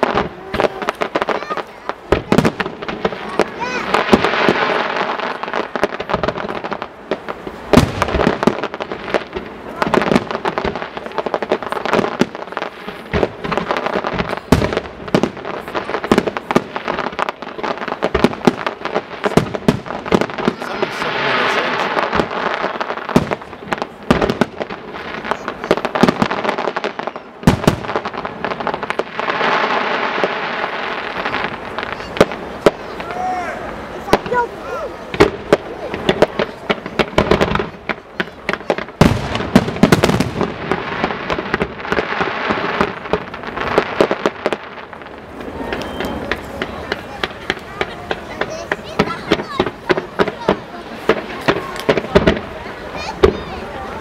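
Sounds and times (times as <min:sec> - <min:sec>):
firework launches and bursts: 0:00.0 - 0:54.0
steady firework hiss: 0:00.0 - 0:54.0.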